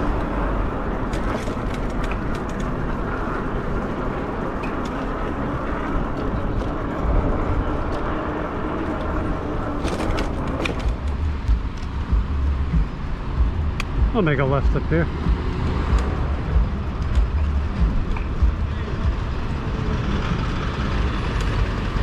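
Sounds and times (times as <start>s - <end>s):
tyres rolling on pavement: 0.0s - 22.0s.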